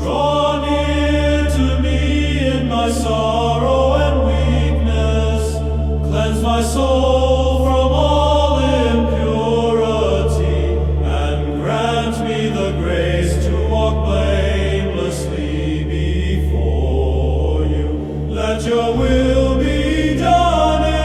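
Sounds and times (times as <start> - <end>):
choral chanting: 0.0 - 21.0
low drone: 0.0 - 21.0.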